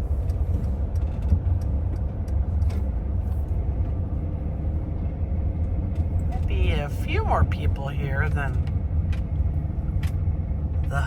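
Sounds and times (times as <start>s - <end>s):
van road and engine rumble: 0.0s - 11.0s.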